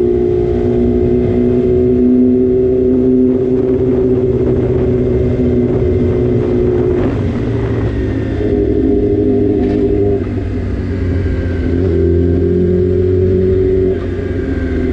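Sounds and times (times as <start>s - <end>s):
motorcycle engine running: 0.0s - 14.9s
wind and road rumble: 0.0s - 14.9s.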